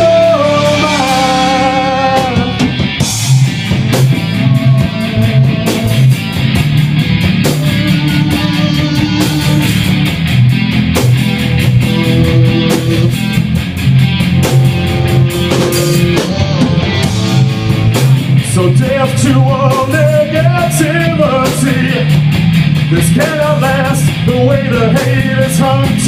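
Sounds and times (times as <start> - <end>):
drum kit: 0.0 - 26.0
electric guitar: 0.0 - 26.0.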